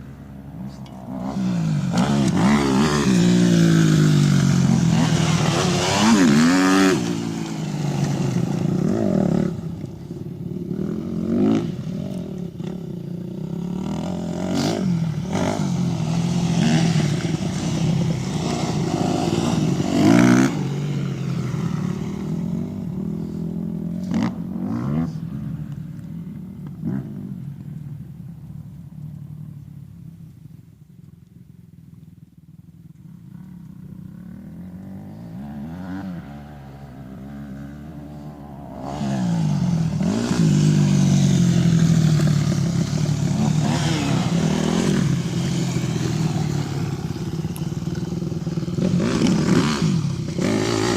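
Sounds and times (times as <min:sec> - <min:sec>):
motorcycle engines revving: 0:00.0 - 0:50.9.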